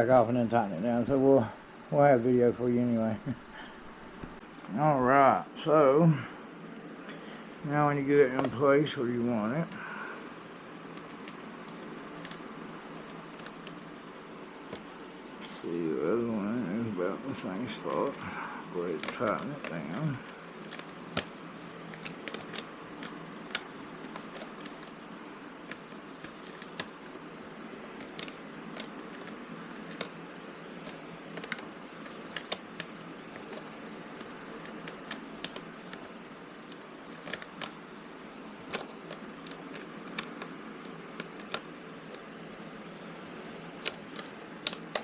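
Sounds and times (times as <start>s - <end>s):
steady background noise: 0.0s - 45.0s.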